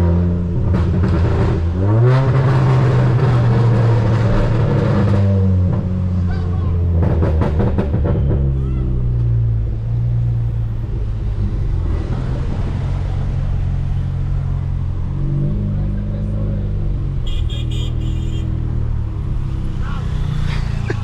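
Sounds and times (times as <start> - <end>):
car engine drone: 0.0 - 21.0.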